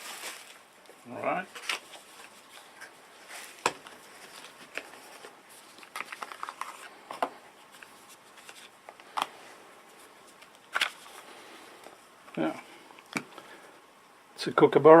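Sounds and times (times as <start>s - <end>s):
packaging crinkling: 0.0s - 0.9s, 1.5s - 13.4s.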